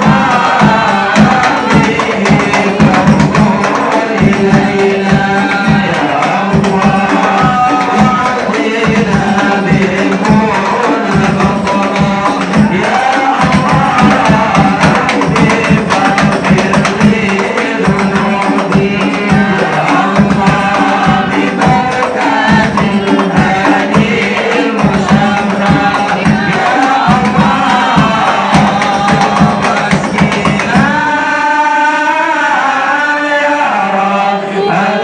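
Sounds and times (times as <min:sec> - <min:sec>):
frame drums fast rhythm: 0:00.0 - 0:33.0
group singing devotional songs: 0:00.0 - 0:35.0.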